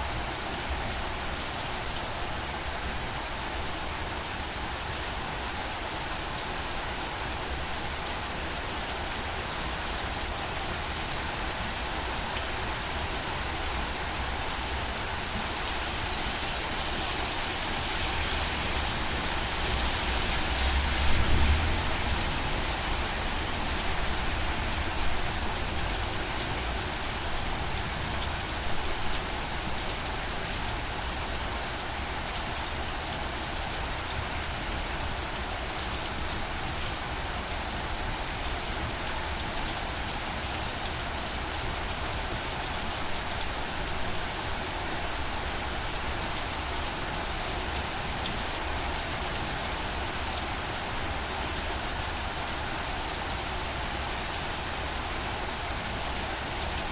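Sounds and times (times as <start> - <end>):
rain pattering on surfaces: 0.1 - 56.9.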